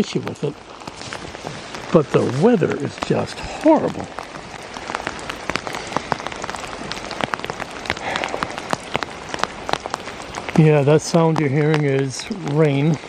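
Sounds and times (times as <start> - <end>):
close raindrop hits: 0.0 - 13.0
steady rain hiss: 0.0 - 13.0.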